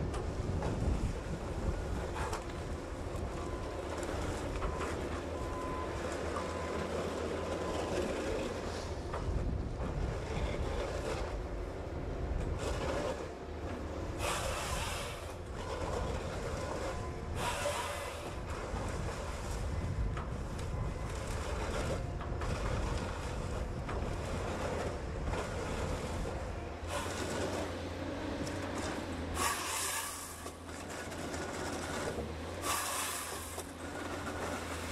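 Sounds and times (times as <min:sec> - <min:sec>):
diesel engine and hydraulics running: 0:00.0 - 0:34.9.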